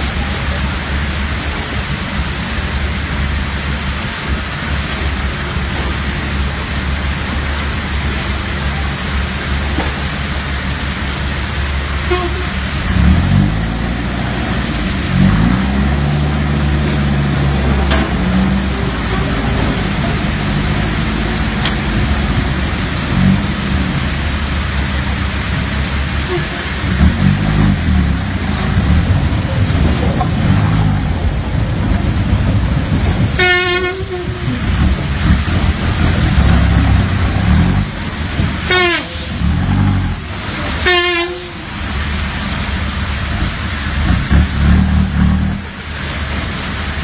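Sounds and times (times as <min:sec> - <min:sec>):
road and wind noise: 0:00.0 - 0:47.0
truck diesel engine revving: 0:00.0 - 0:47.0.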